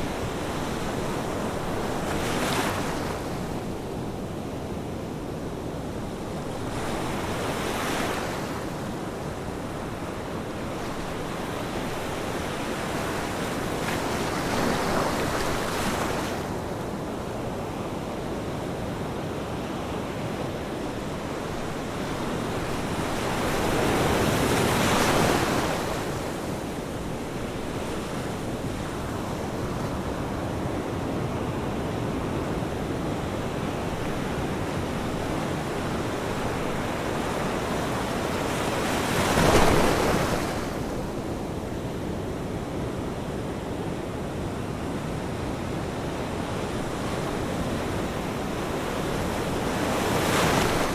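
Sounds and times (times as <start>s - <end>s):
ocean waves breaking on shore: 0.0s - 50.9s.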